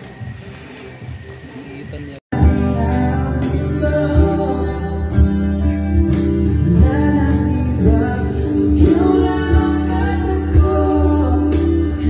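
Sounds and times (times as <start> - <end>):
acoustic guitar playing: 2.3 - 12.0.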